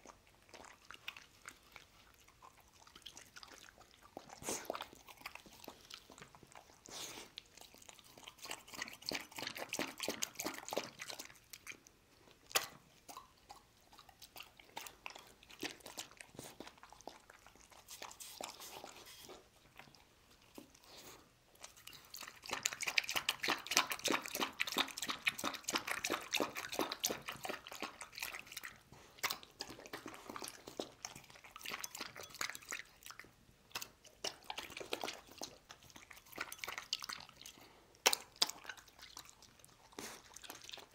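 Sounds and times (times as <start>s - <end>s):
dog chewing and crunching: 0.0s - 40.9s
dog lapping broth: 0.0s - 40.9s.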